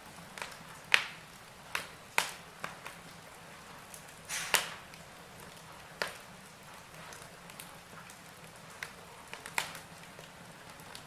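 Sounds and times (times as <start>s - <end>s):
fire hissing: 0.0s - 10.9s
fireplace logs crackling and popping: 0.0s - 11.0s.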